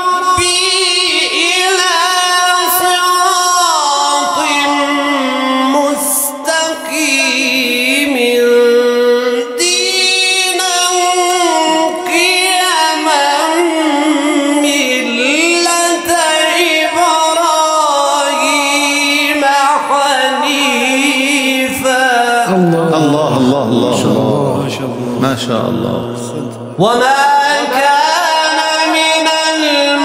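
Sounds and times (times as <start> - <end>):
man reciting melodically: 0.0 - 30.0.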